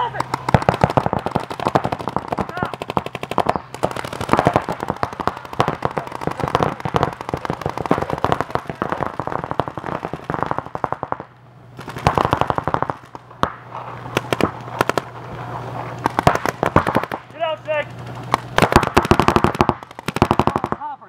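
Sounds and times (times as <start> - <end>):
paintball markers firing: 0.0 - 21.0.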